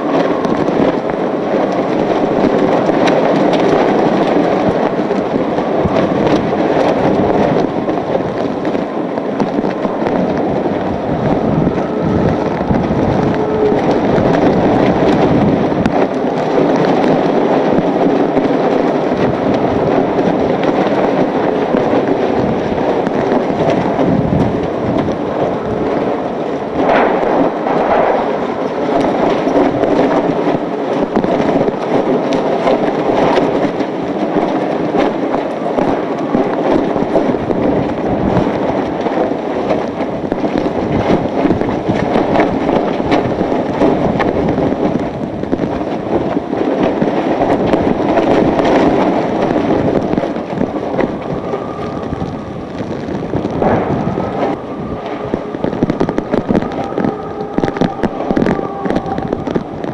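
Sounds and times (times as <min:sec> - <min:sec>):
driving rain: 0:00.0 - 0:59.9
strong wind buffeting microphone: 0:00.0 - 0:59.9.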